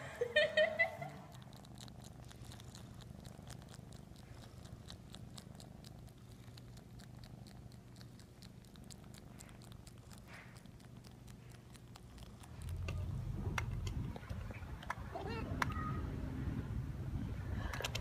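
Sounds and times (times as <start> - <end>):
cat purring: 0.7 - 18.0
cat tongue licking clicks: 1.2 - 15.8.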